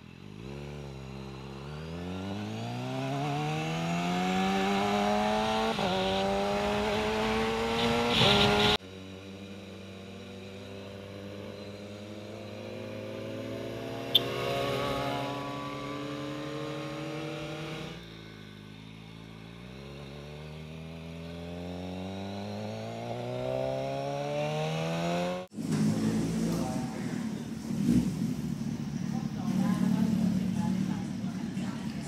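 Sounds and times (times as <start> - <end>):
motorcycle engine revving: 0.0 - 32.0
street noise: 0.0 - 32.0.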